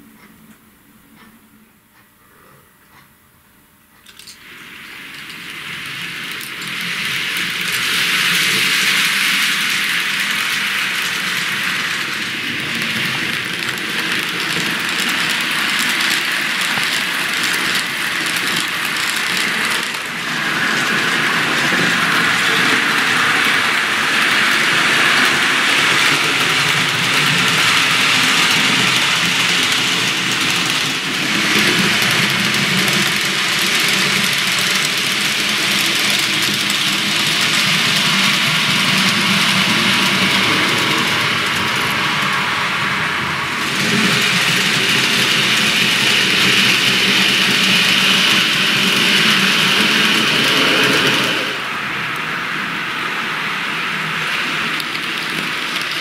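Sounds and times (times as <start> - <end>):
model train whirring rattle: 3.9 - 56.0.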